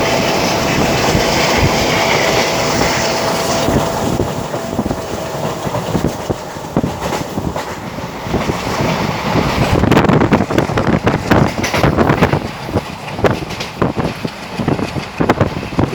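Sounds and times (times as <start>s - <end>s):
train rumbling on track: 0.0s - 15.9s
wheels rattling on rails: 0.0s - 15.9s.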